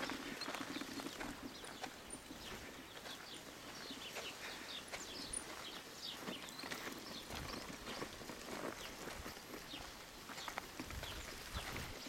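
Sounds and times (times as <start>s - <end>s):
footsteps on dirt road: 0.0s - 12.0s.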